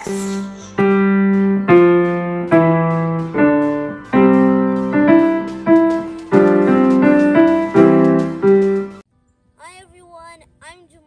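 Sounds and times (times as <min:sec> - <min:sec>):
electric piano playing tune: 0:00.0 - 0:09.0.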